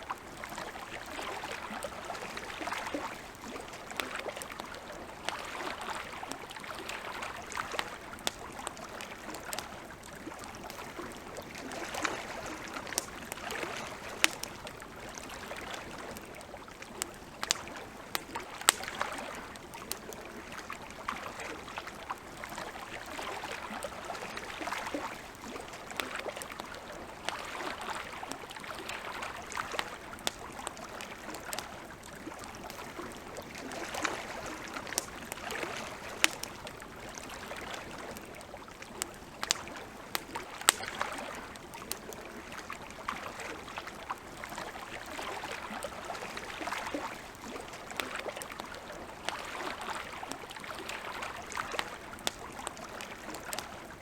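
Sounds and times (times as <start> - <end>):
wood campfire crackling and popping: 0.0 - 54.0.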